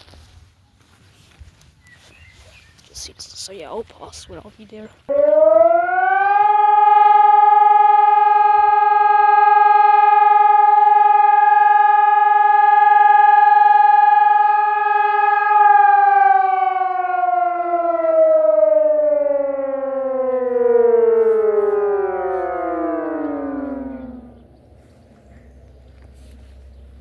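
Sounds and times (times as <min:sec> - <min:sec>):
civil defence siren: 0:05.1 - 0:27.0.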